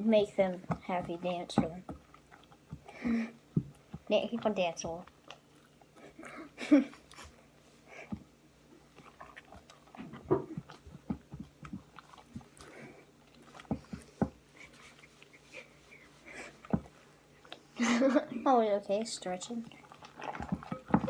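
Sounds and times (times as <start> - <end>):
slime squelching by hand: 0.0 - 21.0.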